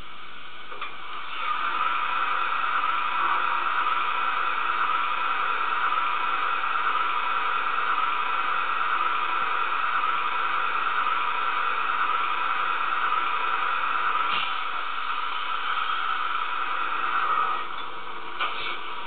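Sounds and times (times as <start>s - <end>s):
steam hiss from small loudspeaker: 0.6s - 19.0s.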